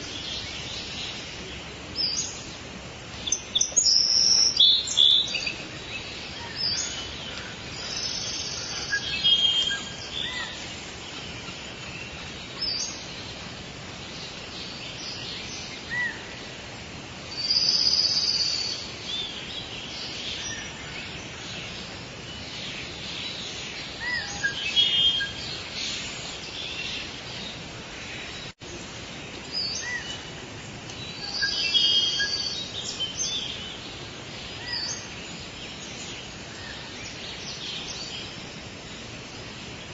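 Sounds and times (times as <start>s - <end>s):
birds chirping and singing: 0.0s - 16.7s, 17.3s - 39.9s
steady background hiss: 0.0s - 39.9s.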